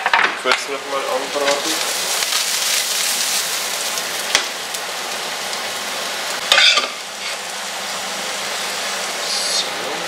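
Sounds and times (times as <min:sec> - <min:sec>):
fish and onion sizzling in a pan: 0:00.8 - 0:10.0.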